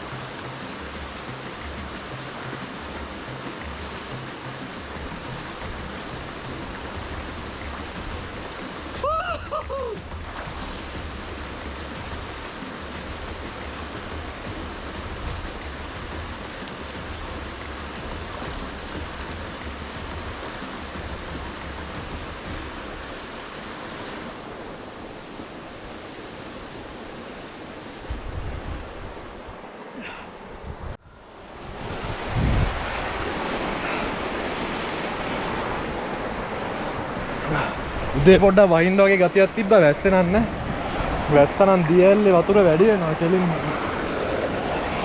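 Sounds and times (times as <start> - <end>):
stream and waterfall rushing: 0.0 - 45.0.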